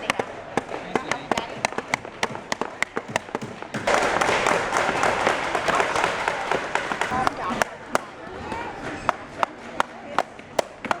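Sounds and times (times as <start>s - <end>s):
hammers tapping nails into wood: 0.0s - 8.1s, 9.0s - 11.0s
hubbub of many voices: 0.0s - 11.0s.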